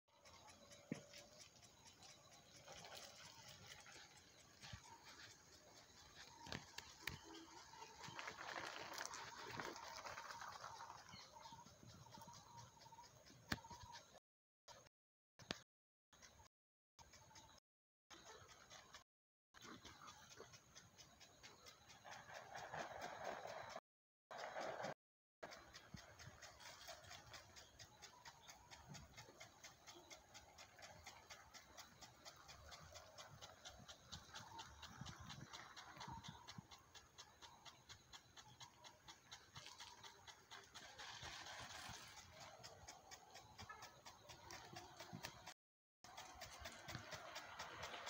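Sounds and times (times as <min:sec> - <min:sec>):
water sprinkler ticking: 0:00.1 - 0:14.2, 0:19.6 - 0:48.0.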